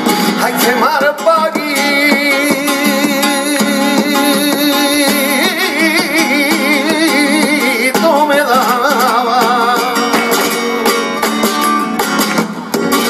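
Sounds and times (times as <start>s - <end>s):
acoustic guitar accompaniment: 0.0s - 13.0s
man singing into a microphone: 0.1s - 11.1s.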